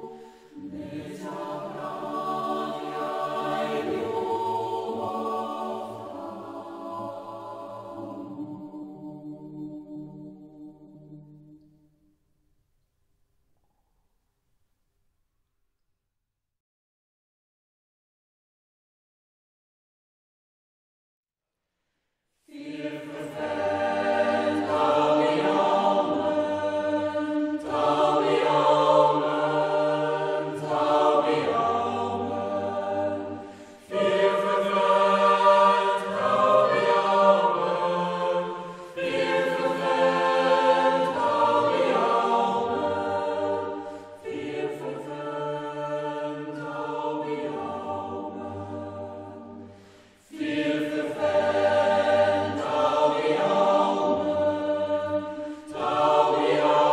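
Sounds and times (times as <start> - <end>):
choir singing slow song: 0.0 - 12.2, 22.3 - 56.9.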